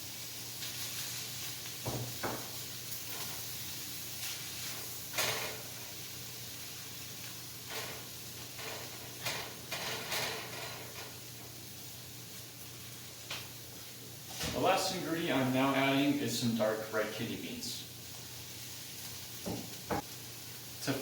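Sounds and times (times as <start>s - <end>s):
stir fry sizzling in a pan: 0.0s - 21.0s.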